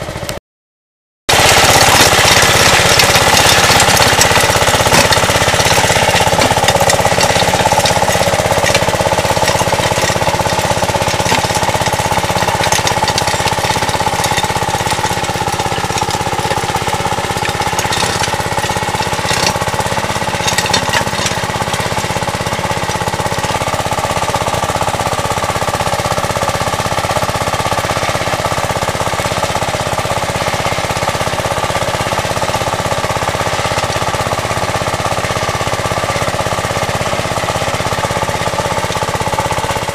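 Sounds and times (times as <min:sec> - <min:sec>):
tractor engine running: 0:00.0 - 0:00.4, 0:01.3 - 0:39.9
rapid mechanical clatter: 0:01.3 - 0:39.9.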